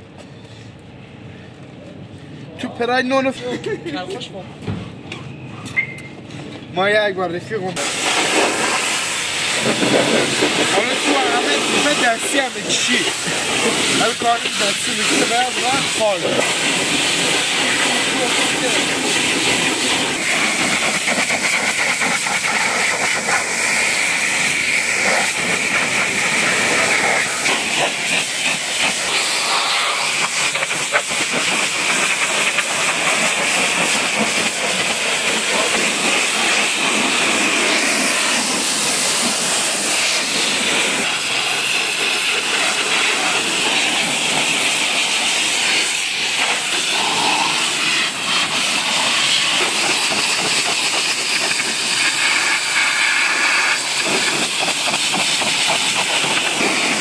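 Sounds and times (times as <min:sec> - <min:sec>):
pressure washer spraying water: 0:07.8 - 0:57.0.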